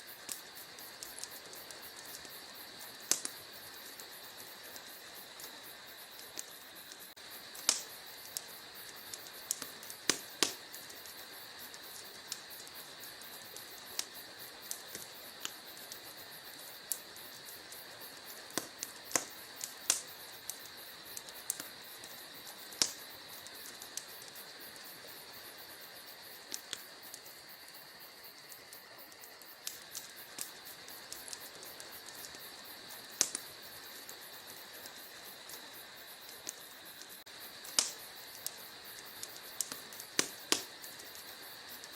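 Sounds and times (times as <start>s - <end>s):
faint hiss of fire: 0.0s - 41.9s
wood fire crackling: 0.0s - 41.9s.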